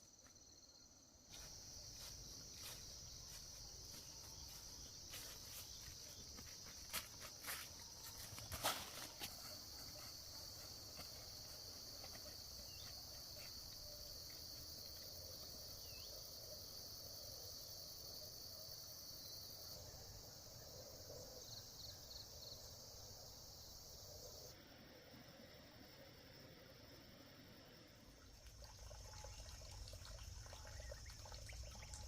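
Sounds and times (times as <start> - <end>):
high-pitched insect chorus: 0.1 - 32.0.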